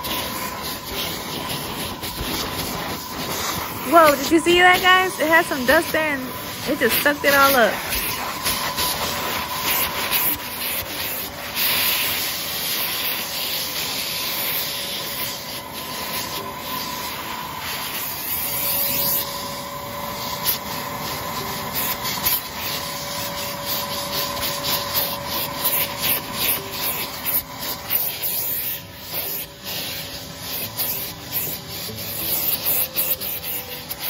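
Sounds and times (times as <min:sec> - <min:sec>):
brush scrubbing fabric upholstery: 0:00.0 - 0:34.0
vacuum cleaner whine: 0:00.0 - 0:34.0.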